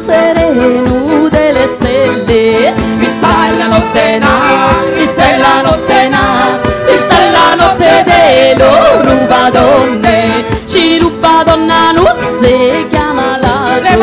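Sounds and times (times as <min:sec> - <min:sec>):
folk band playing: 0:00.0 - 0:14.0
woman singing lead: 0:00.0 - 0:14.0
steady percussion beat: 0:00.4 - 0:14.0.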